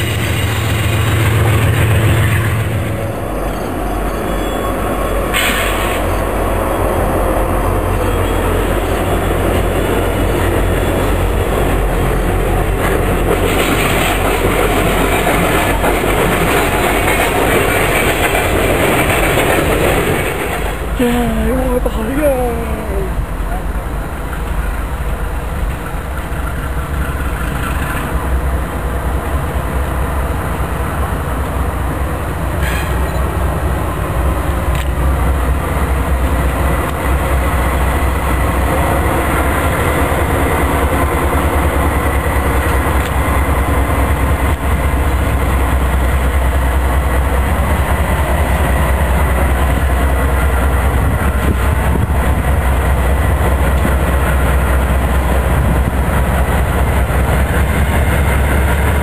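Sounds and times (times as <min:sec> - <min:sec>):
train wheels clicking on rails: 0:00.0 - 0:07.2, 0:07.9 - 0:21.0, 0:23.7 - 0:59.0
diesel locomotive engines rumbling: 0:00.0 - 0:59.0.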